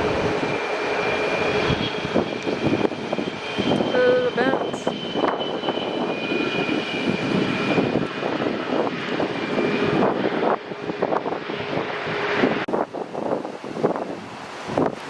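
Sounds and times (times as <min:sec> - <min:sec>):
jet engines roaring: 0:00.0 - 0:15.0
wind buffeting microphone: 0:00.0 - 0:15.0.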